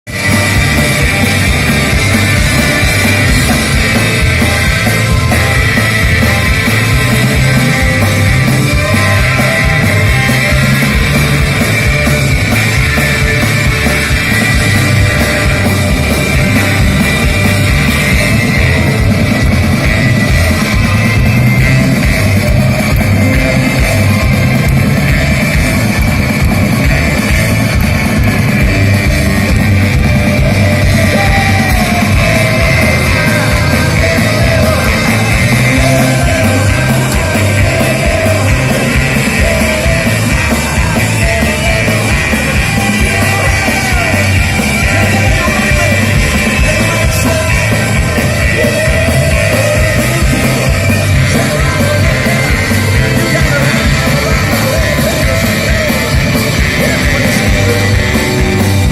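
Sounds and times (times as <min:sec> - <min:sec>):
rock band playing: 0:00.0 - 0:58.9
voices singing and shouting: 0:00.0 - 0:58.9
drum-kit beat: 0:00.1 - 0:58.9.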